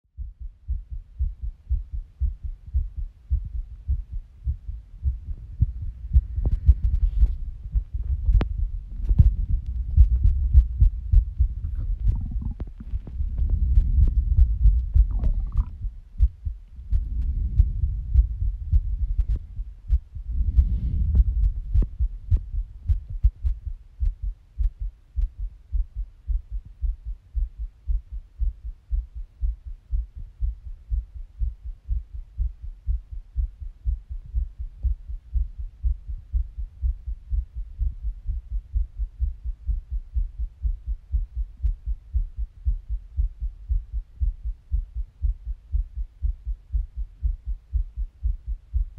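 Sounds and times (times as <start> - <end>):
heartbeat thumps: 0.0 - 48.9
muffled low rumbles: 0.0 - 48.9.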